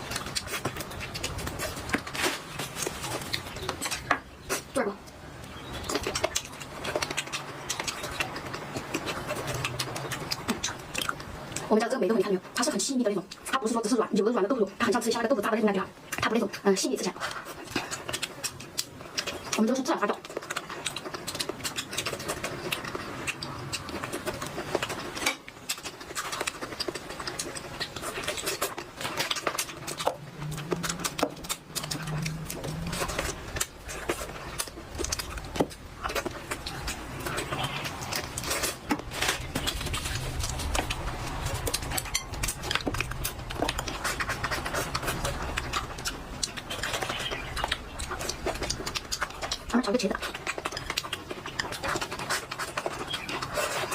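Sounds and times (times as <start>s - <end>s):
person chewing and smacking: 0.0s - 11.8s, 14.9s - 53.9s.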